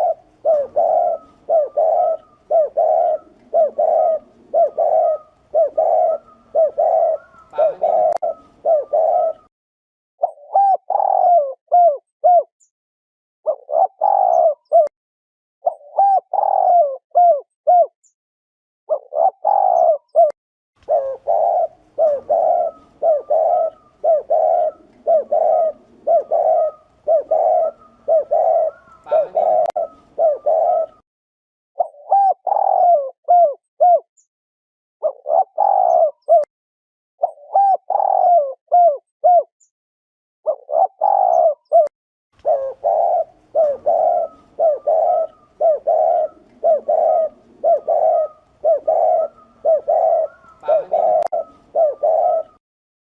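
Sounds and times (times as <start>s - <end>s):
dove cooing: 0.0s - 9.5s, 10.2s - 12.5s, 13.5s - 14.9s, 15.6s - 17.9s, 18.9s - 31.0s, 31.8s - 34.1s, 35.0s - 36.5s, 37.2s - 39.5s, 40.5s - 52.6s.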